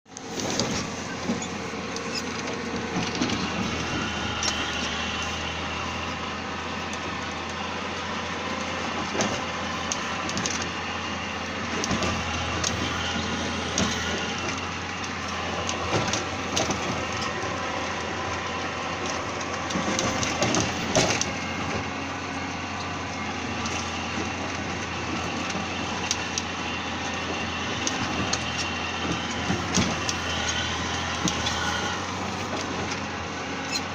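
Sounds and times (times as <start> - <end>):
diesel engine running: 0.1 - 33.9
grinding crunching noise: 0.1 - 33.9.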